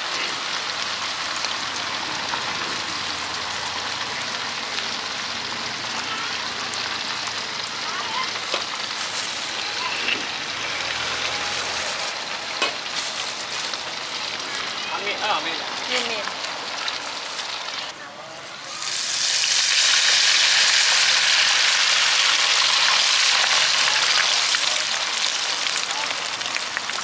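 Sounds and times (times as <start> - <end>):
oil sizzling and bubbling: 0.0 - 27.0.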